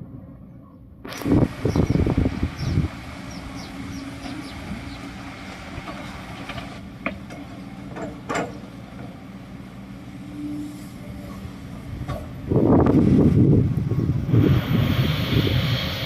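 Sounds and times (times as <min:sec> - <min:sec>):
bulldozer diesel engine running: 0:00.9 - 0:16.0.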